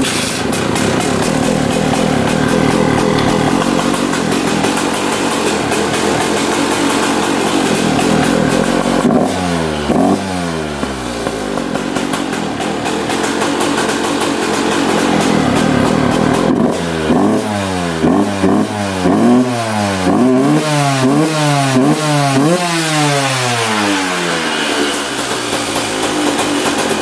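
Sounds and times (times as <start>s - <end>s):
two-stroke engine running: 0.0s - 27.0s.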